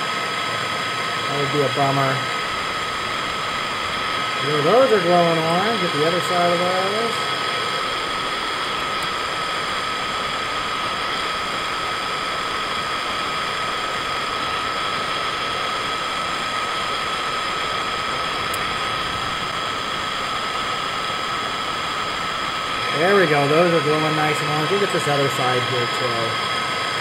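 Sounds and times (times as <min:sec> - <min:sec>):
gas torch flame roaring: 0:00.0 - 0:27.0.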